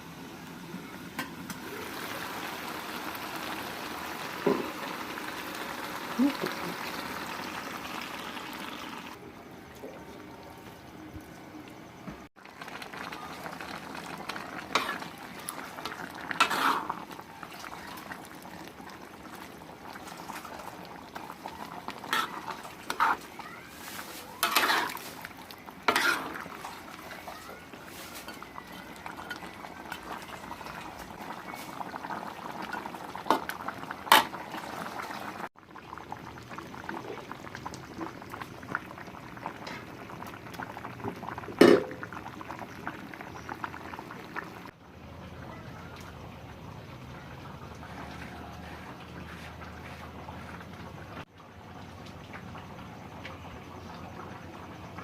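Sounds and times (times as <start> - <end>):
pot bubbling at the boil: 0.0 - 55.0.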